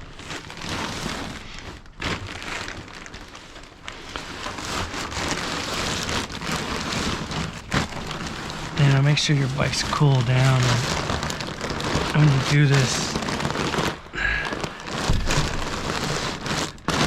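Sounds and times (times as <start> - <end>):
crackling rustling noise: 0.0 - 17.0.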